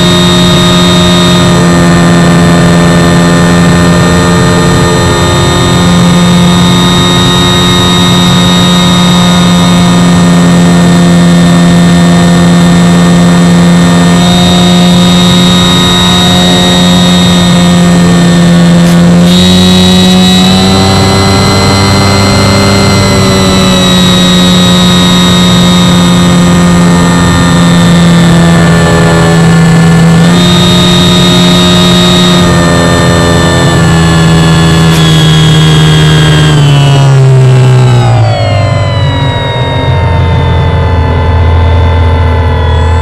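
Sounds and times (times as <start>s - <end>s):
electric motor and propeller whine: 0.0s - 43.0s.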